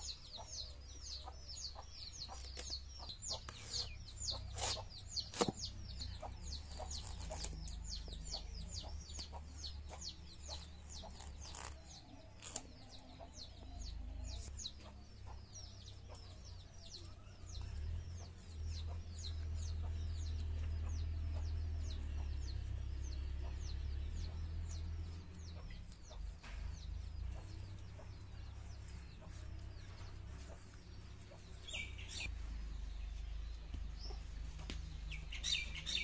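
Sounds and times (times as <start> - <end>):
birds chirping: 0.0 - 36.0
chickens clucking: 0.0 - 36.0.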